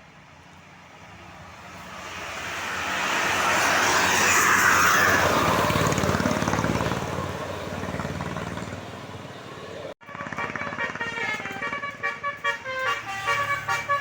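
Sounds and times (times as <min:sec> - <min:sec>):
bus driving past: 0:00.0 - 0:14.0.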